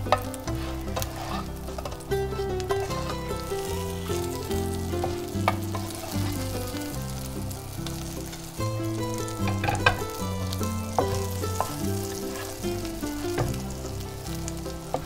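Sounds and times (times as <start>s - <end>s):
background music with held notes: 0.0s - 15.0s
cutlets sizzling in oil: 0.0s - 15.0s.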